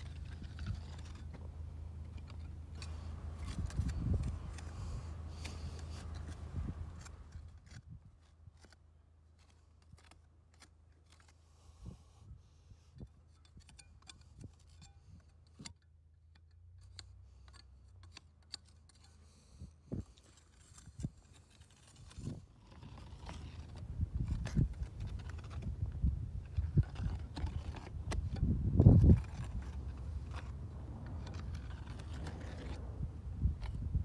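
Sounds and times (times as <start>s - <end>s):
hand tool scraping mortar: 0.0s - 12.1s, 12.8s - 32.9s
low steady hum: 0.0s - 34.0s.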